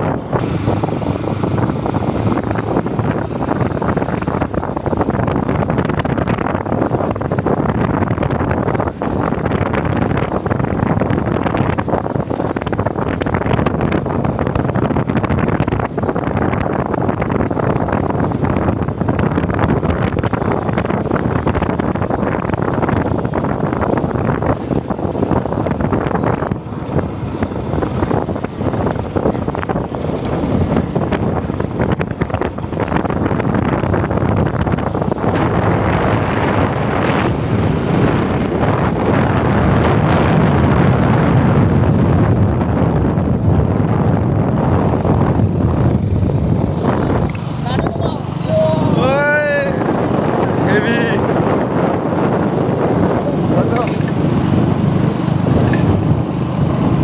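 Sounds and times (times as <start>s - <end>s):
motorcycle running: 0.0s - 57.0s
wind rushing over microphone: 0.0s - 57.0s.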